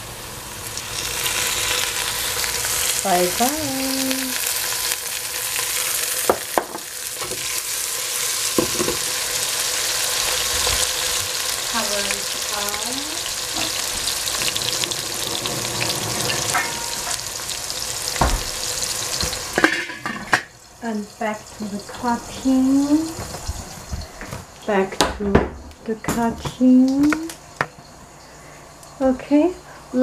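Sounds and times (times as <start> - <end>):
oil sizzling in a pot: 0.0 - 24.8.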